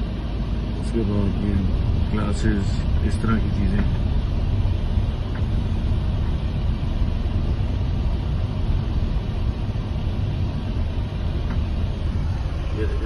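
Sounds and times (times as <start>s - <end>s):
van engine and road noise: 0.0s - 13.0s.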